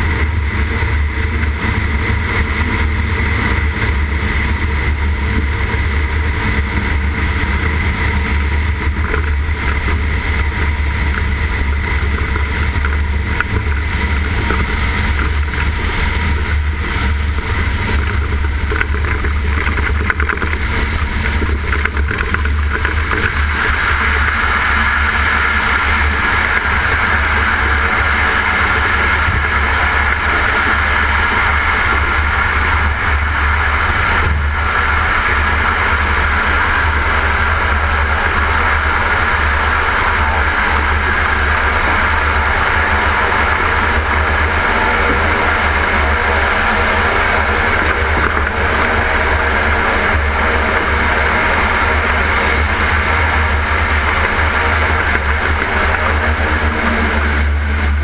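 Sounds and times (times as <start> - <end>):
propeller plane engine: 0.0 - 58.0
wind rush: 0.0 - 58.0.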